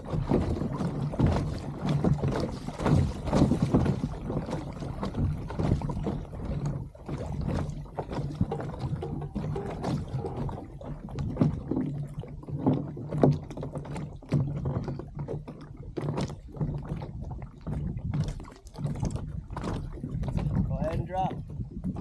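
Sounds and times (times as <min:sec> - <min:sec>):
knocks and splashes: 0:00.0 - 0:22.0
water slapping against kayak hull: 0:00.0 - 0:22.0.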